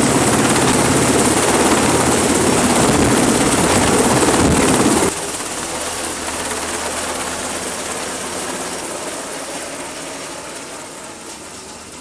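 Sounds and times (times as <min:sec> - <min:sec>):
helicopter flying away: 0:00.0 - 0:12.0.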